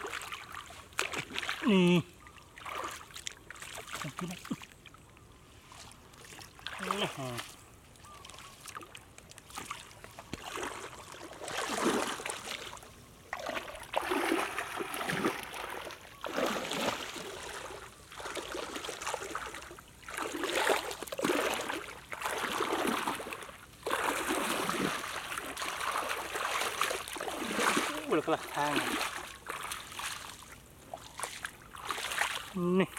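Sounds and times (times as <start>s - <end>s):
muddy water splashing: 0.0s - 32.9s.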